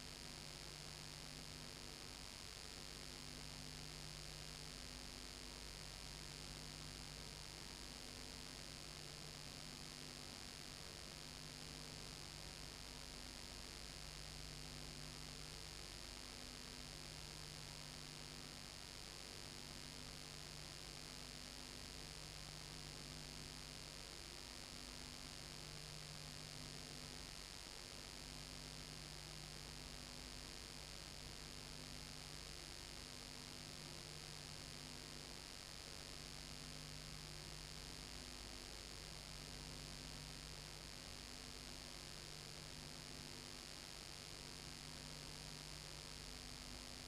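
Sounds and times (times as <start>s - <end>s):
electrical hum and hiss: 0.0s - 47.0s.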